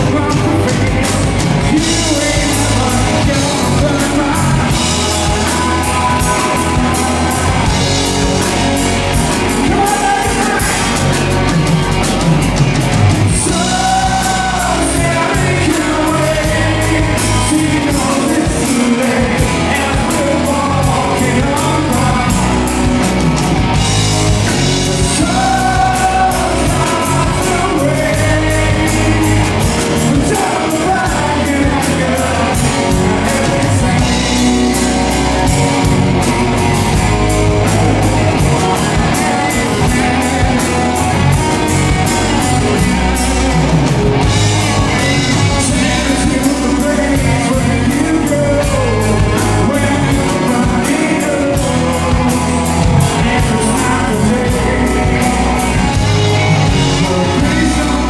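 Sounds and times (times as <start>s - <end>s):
rock music with singer: 0.0s - 58.0s.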